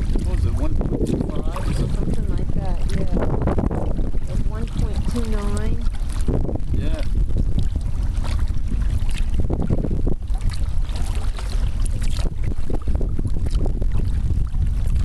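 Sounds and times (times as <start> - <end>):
paddle strokes splashing water: 0.0 - 15.0
wind buffeting microphone: 0.0 - 15.0.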